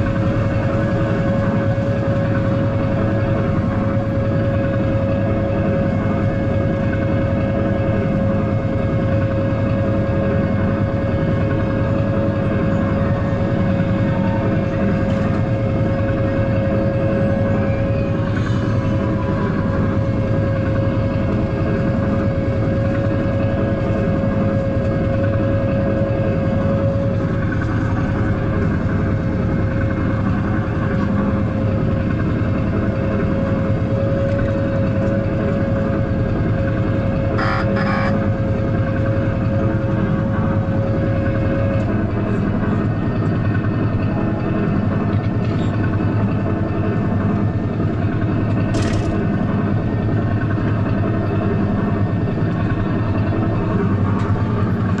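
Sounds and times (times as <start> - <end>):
car engine running: 0.0 - 55.0
steady whine: 0.0 - 55.0.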